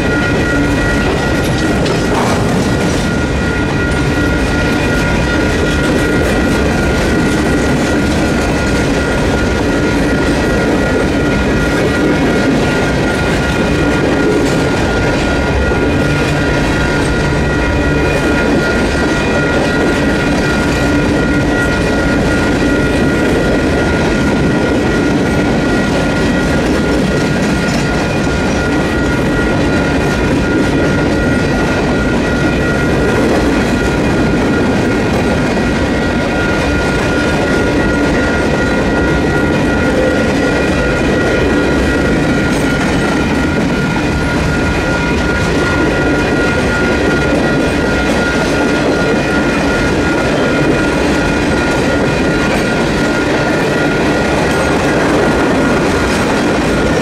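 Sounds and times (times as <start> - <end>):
crossing warning bells ringing: 0.0 - 57.0
freight train wheels clattering: 0.0 - 57.0.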